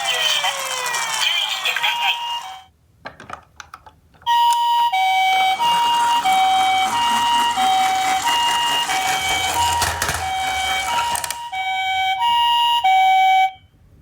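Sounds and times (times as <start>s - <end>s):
toy two-tone electronic siren: 0.0s - 2.7s, 4.3s - 13.6s.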